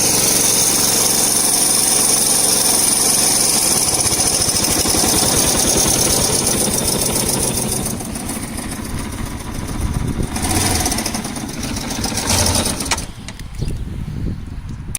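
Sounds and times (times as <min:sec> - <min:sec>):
motorcycle engine running with knock: 0:00.0 - 0:13.7.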